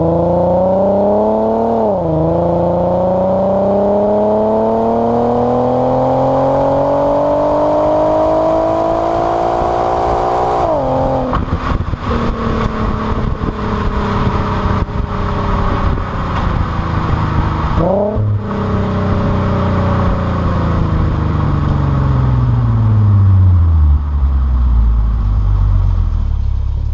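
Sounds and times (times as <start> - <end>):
car engine accelerating: 0.0 - 26.9.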